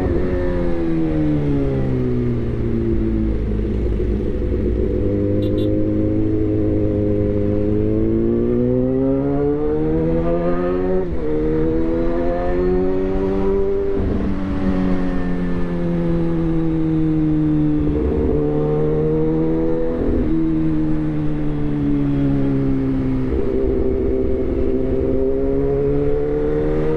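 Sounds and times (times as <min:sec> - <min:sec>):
motorcycle engine revving: 0:00.0 - 0:21.4, 0:22.6 - 0:26.9.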